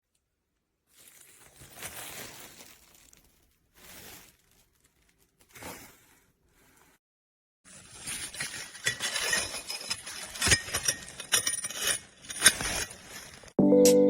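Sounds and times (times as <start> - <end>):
crinkling and rustling: 0.1 - 7.0, 7.7 - 13.6.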